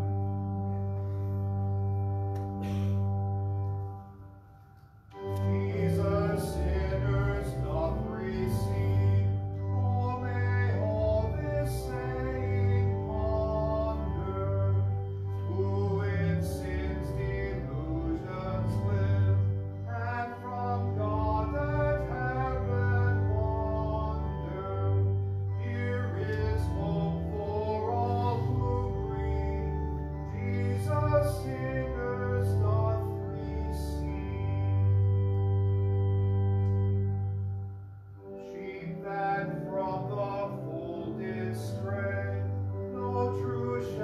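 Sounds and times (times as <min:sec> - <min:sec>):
held keyboard chord: 0:00.0 - 0:44.0
singing with keyboard accompaniment: 0:00.0 - 0:44.0.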